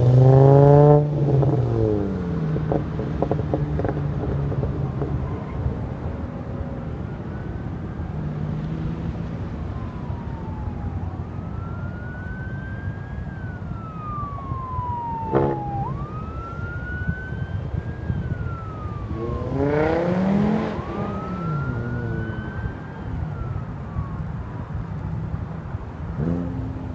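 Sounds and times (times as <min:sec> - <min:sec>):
ambulance siren wailing: 0:04.9 - 0:26.9.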